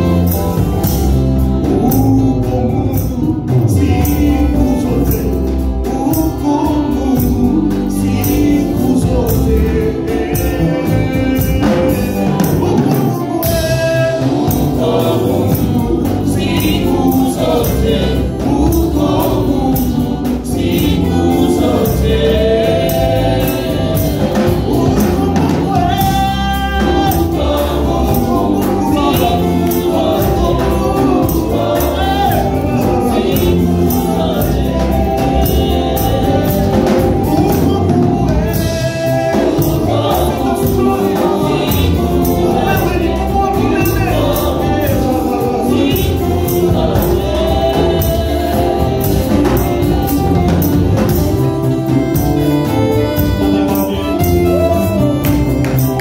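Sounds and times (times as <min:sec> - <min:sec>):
band playing with drums: 0:00.0 - 0:56.0
man singing lead: 0:00.0 - 0:56.0
tambourine shaking: 0:00.0 - 0:56.0
women's choir singing: 0:00.0 - 0:56.0.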